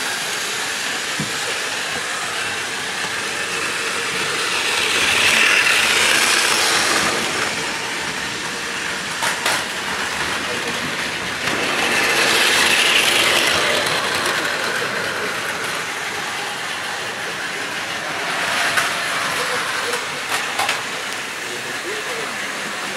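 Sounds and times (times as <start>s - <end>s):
toy trains whirring on plastic track: 0.0s - 22.9s.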